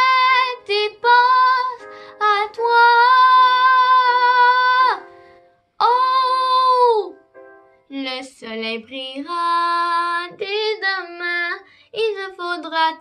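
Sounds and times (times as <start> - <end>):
girl singing: 0.0 - 7.3, 7.9 - 13.0.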